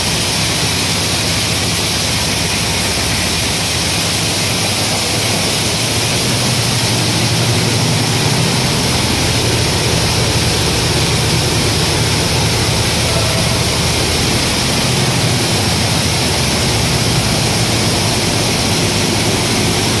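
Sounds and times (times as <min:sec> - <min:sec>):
loud rushing hiss of grain: 0:00.0 - 0:20.0
machinery low hum: 0:00.0 - 0:20.0.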